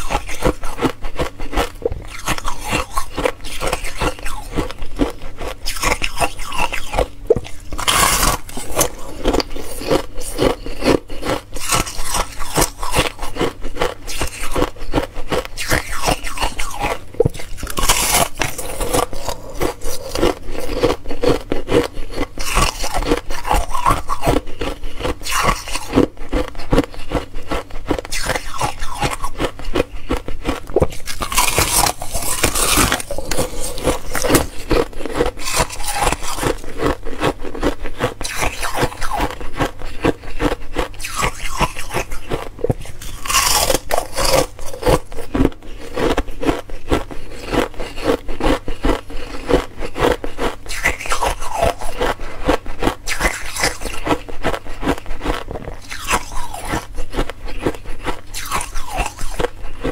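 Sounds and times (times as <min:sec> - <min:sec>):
ice being chewed crunching: 0:00.0 - 0:59.9.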